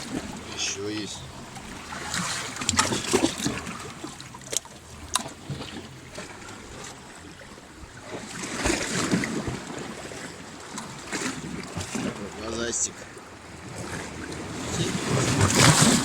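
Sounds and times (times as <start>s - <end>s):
waves splashing against rocks: 0.0s - 16.0s.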